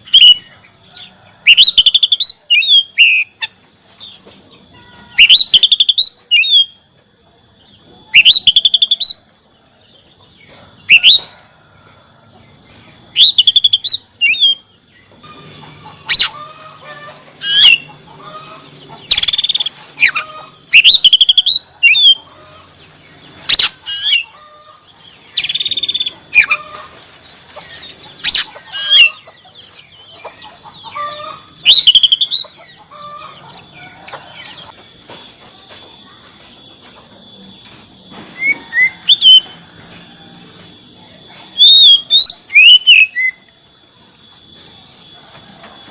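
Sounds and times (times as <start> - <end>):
songbird whistling song: 0.0 - 4.2, 5.1 - 11.6, 12.4 - 45.2.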